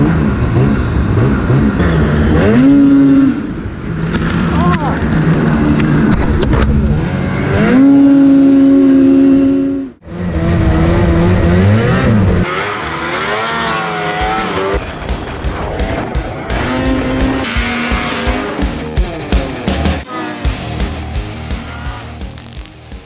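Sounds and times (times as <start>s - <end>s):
snowmobile engines revving: 0.0s - 23.0s.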